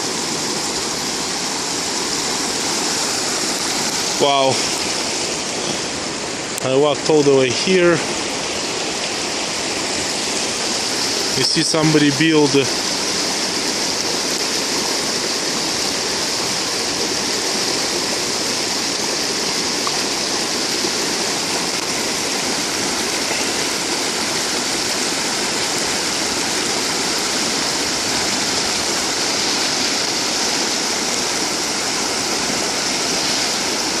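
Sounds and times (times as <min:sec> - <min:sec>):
stream rushing: 0:00.0 - 0:34.0.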